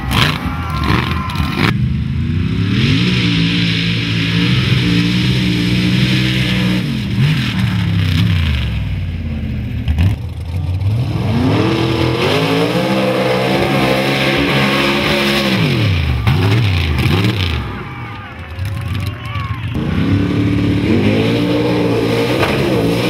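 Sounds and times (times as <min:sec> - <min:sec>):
truck engines revving hard: 0:00.0 - 0:23.0.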